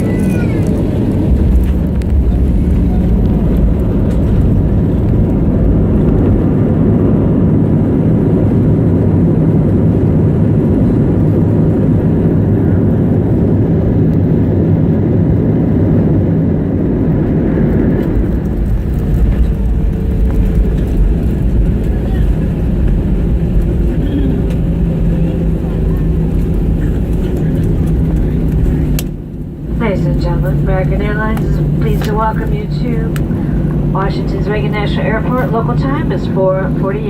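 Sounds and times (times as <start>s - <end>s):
airplane engine rumble in cabin: 0.0s - 37.0s.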